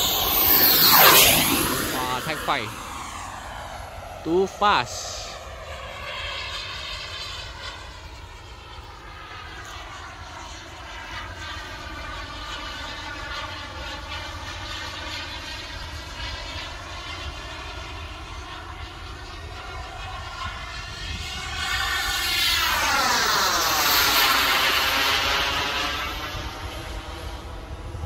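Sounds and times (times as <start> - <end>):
model jet turbine whining: 0.0 - 28.0.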